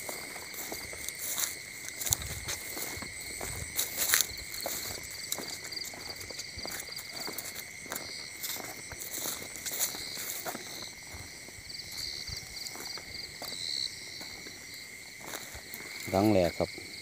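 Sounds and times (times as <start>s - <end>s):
cricket-like trill: 0.0s - 17.0s
footsteps in dry grass: 0.0s - 17.0s
insect high drone: 0.0s - 17.0s.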